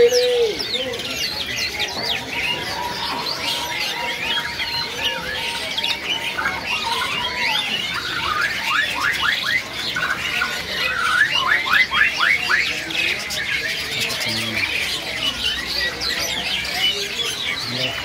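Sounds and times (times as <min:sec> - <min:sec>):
caged birds chirping and squawking: 0:00.0 - 0:18.0.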